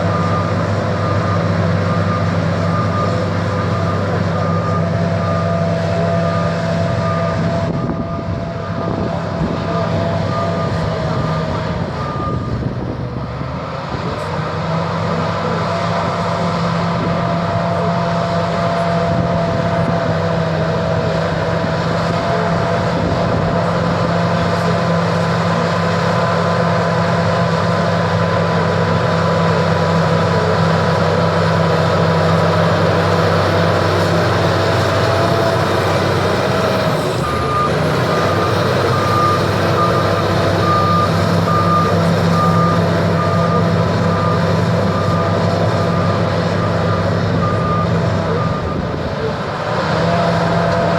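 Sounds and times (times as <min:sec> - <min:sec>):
bulldozer diesel engine running: 0:00.0 - 0:50.9
reversing alarm beeping: 0:00.0 - 0:50.9.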